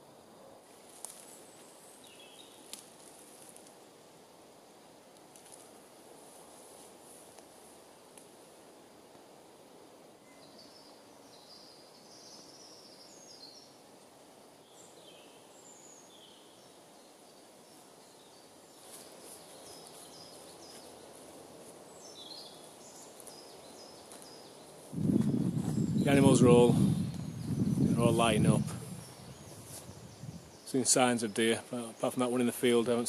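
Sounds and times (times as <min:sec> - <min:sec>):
faint birdsong: 0:00.0 - 0:03.6, 0:10.1 - 0:33.0
outdoor hiss: 0:00.0 - 0:33.0.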